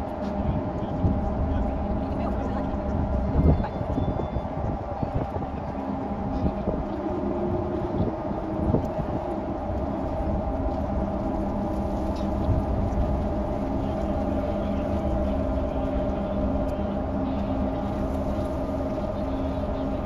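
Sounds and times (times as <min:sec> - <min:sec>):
ferry engines droning: 0:00.0 - 0:20.0.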